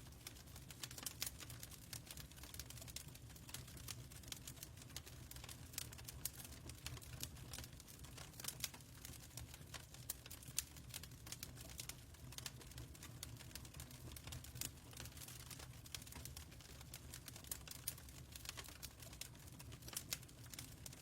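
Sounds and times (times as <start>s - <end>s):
low rumble of fire: 0.0s - 21.0s.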